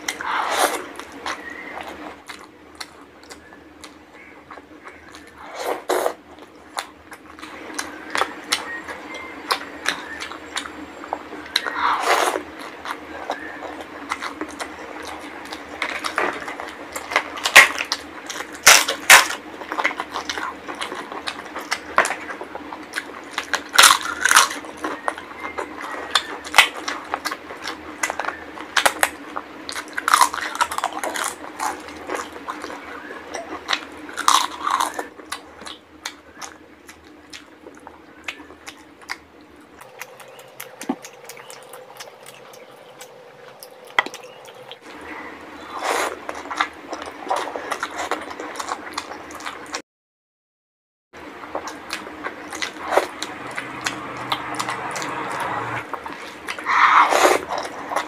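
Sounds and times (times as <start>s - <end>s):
wet chewing and lip-smacking: 0.0s - 49.8s, 51.4s - 58.0s.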